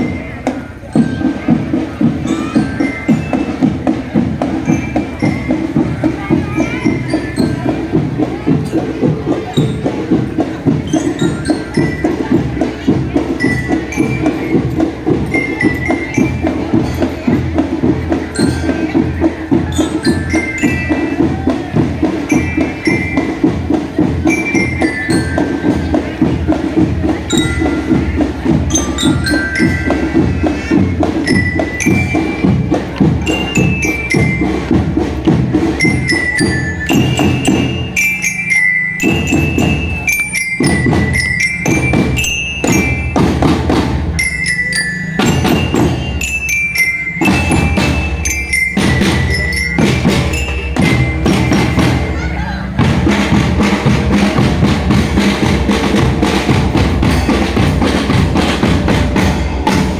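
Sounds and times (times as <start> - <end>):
glockenspiel bell melody: 0.0 - 59.9
snare and bass drum strokes: 0.0 - 59.9.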